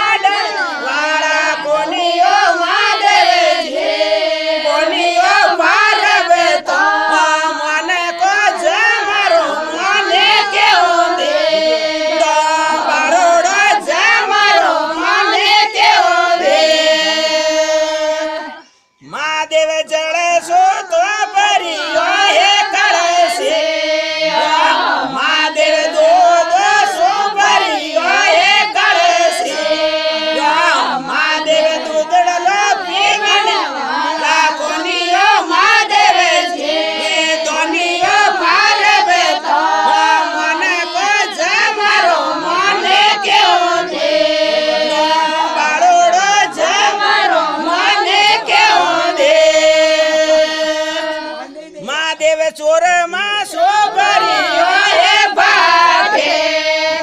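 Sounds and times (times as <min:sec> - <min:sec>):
group singing: 0:00.0 - 0:52.4, 0:53.0 - 0:57.0.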